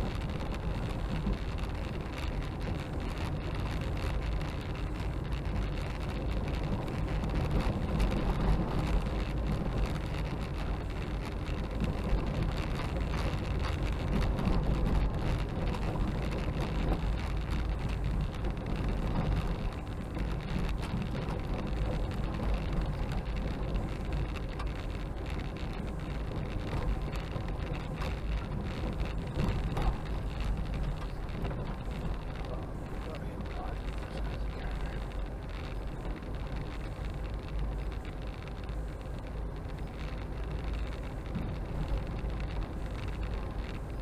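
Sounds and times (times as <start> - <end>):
car interior road rumble: 0.0 - 44.0
gravel crackling under tyres: 0.0 - 44.0.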